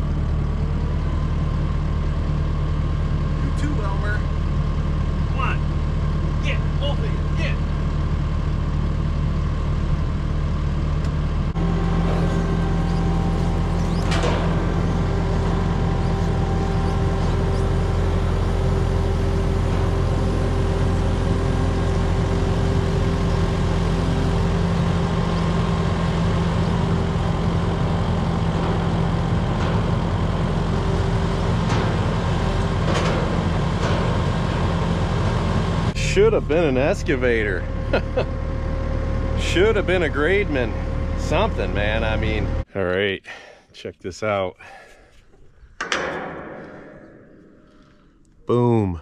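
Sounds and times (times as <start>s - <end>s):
diesel engine running under load: 0.0s - 43.6s.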